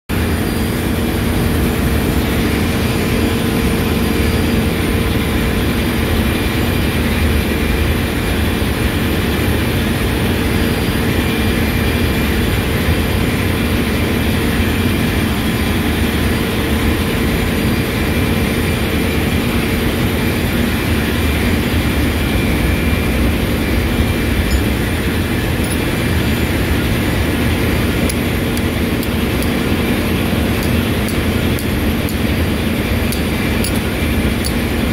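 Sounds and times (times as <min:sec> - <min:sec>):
centrifugal separator droning: 0:00.1 - 0:34.9.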